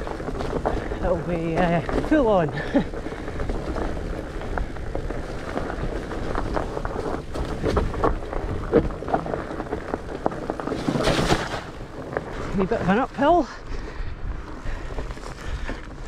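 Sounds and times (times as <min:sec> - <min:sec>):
bike knocking and rattling: 0:00.0 - 0:16.0
bike tyres rolling on dirt trail: 0:00.0 - 0:16.0
wind rumble on microphone: 0:00.0 - 0:16.0.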